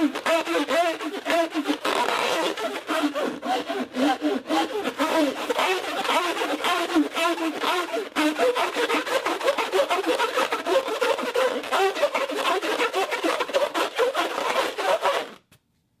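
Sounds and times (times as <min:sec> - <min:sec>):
rubber balloon squeaking: 0:00.0 - 0:15.5.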